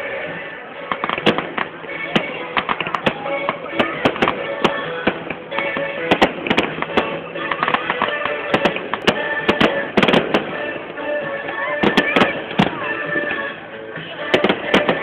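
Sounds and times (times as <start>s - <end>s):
fireworks cracking and banging: 0.0s - 15.0s
music playing: 0.0s - 15.0s.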